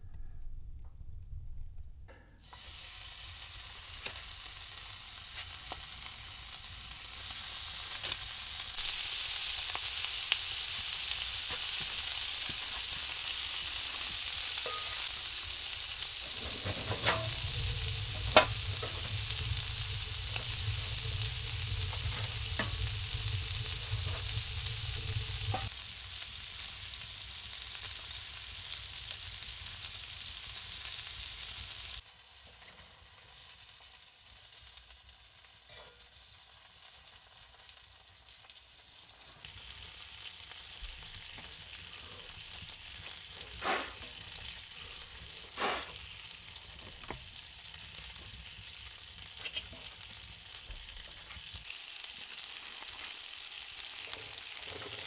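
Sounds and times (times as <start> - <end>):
food sizzling and popping: 2.4 - 55.0.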